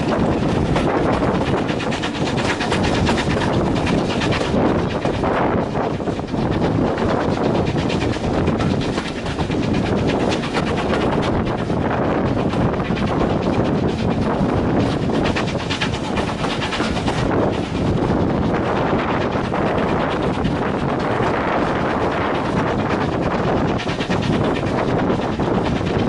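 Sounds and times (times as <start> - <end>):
train rumble: 0.0 - 26.0
wheels rattling clatter: 0.0 - 26.0.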